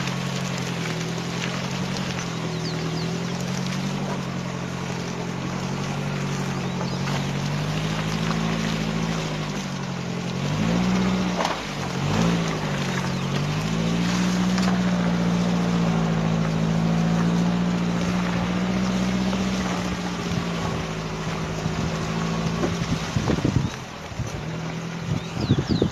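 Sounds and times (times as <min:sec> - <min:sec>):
engine revving: 0:00.0 - 0:25.9
tyre churning through mud: 0:00.0 - 0:25.9.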